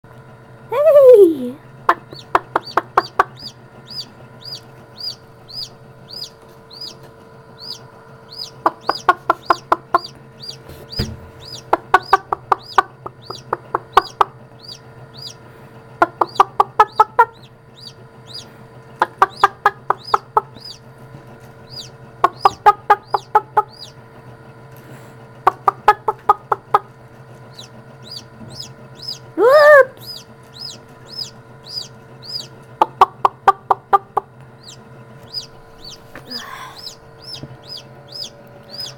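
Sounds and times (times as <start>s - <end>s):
incubator hum: 0.1s - 38.9s
chicks peeping: 0.7s - 24.1s, 25.4s - 38.9s.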